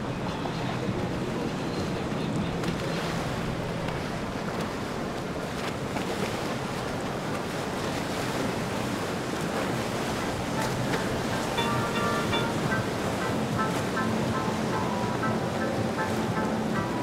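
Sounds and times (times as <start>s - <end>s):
boat engine humming: 0.0s - 17.0s
water washing: 2.5s - 17.0s.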